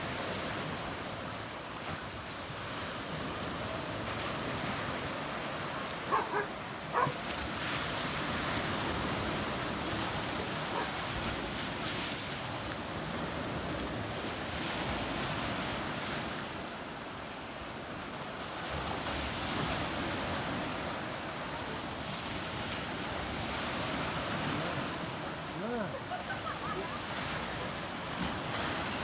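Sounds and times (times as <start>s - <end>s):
waves washing in: 0.0s - 29.0s.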